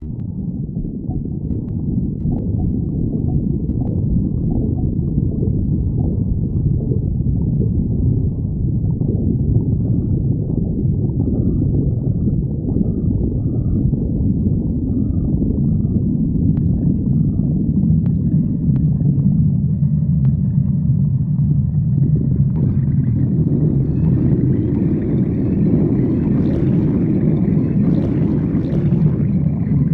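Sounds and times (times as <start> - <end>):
faint gurgles: 0.0 - 29.9
stomach growling: 0.0 - 29.9.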